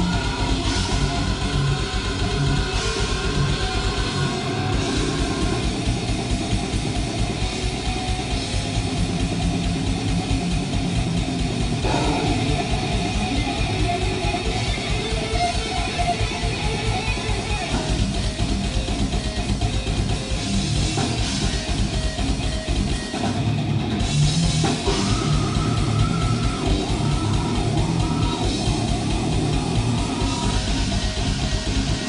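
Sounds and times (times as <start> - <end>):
death metal band playing live: 0.0 - 32.0.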